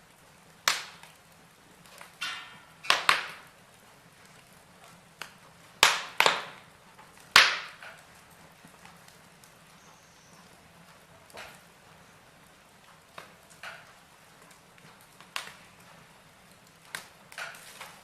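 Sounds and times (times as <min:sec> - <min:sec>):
logs crackling in fireplace: 0:00.0 - 0:18.0.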